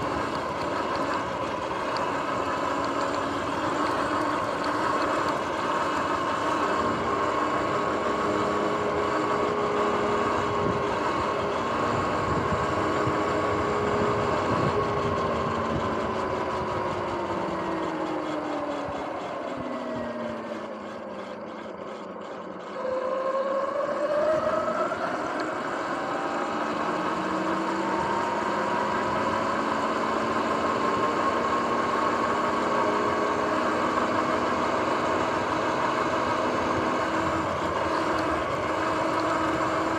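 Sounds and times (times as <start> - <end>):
wind and tyre rush: 0.0 - 20.5, 22.9 - 39.9
electric motor whining: 0.0 - 39.9.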